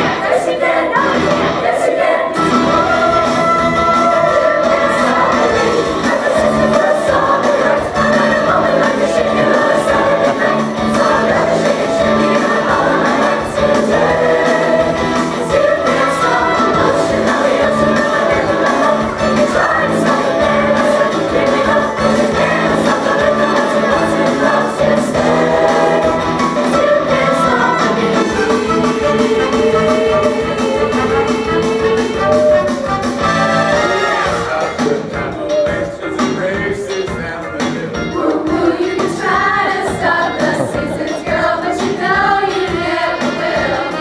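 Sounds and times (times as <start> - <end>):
mixed choir singing: 0.0 - 36.8, 38.0 - 44.0.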